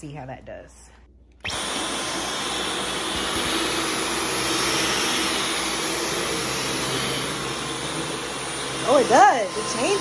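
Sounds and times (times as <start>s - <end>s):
vacuum cleaner running: 1.4s - 10.0s.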